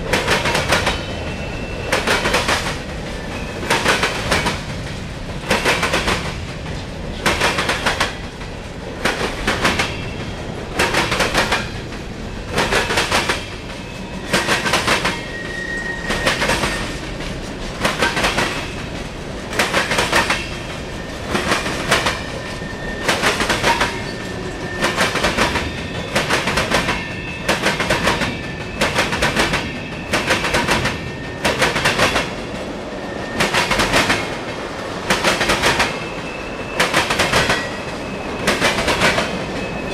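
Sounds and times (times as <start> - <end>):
train rumble: 0.0 - 39.9
train wheels clacking on rail joints: 0.0 - 39.9.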